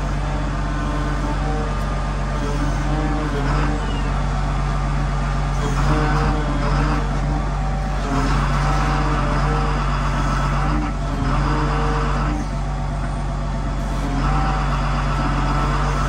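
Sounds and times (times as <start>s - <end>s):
diesel engine running: 0.0s - 16.0s
hydraulic whine: 0.0s - 16.0s.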